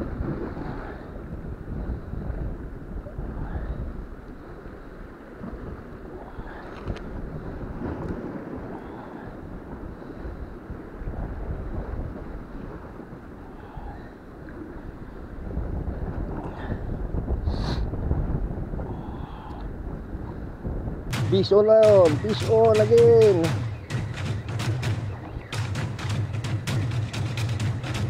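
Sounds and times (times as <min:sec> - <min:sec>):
sea waves washing: 0:00.0 - 0:28.0
wind buffeting microphone: 0:00.0 - 0:28.0.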